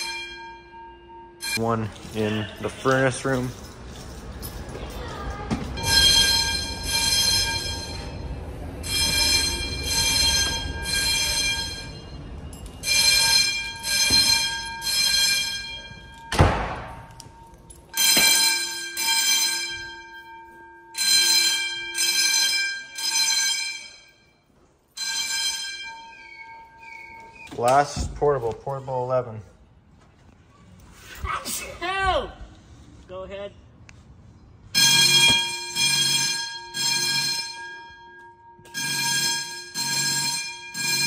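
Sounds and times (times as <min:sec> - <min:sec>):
fire alarm bells ringing: 0:00.0 - 0:29.5, 0:34.6 - 0:41.0.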